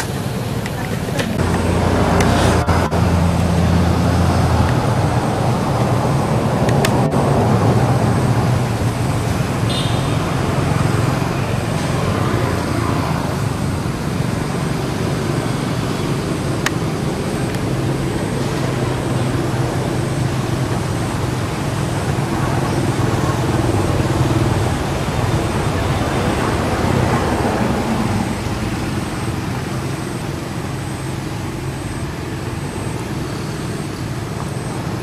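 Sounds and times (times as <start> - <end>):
engine hum: 0.0 - 35.0
traffic rumble: 0.0 - 35.0.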